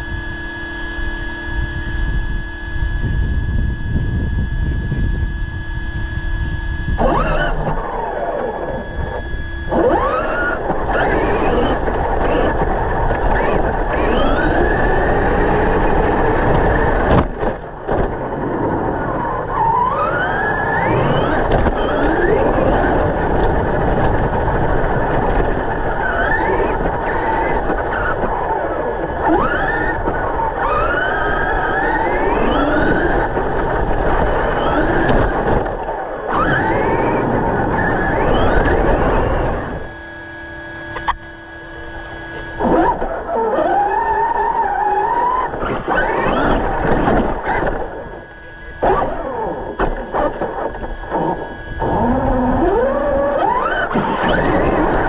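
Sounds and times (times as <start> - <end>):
rc truck motors whining: 0.0 - 55.0.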